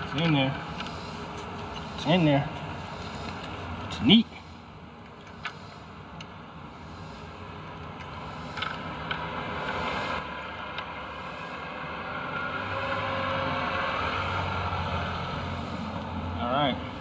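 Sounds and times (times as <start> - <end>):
passing vehicle engine and road noise: 0.0 - 17.0.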